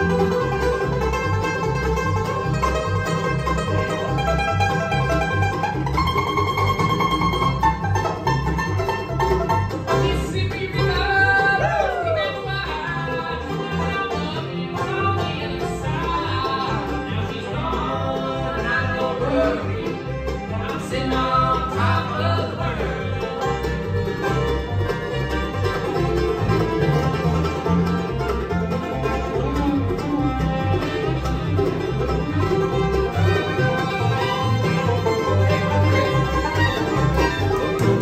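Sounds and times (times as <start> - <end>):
banjo picking: 0.0 - 38.0
guitar picking: 0.0 - 38.0.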